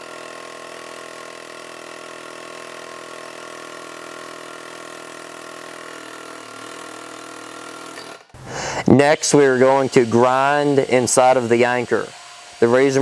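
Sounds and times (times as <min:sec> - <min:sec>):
pneumatic air hammer buzzing: 0:00.0 - 0:13.0.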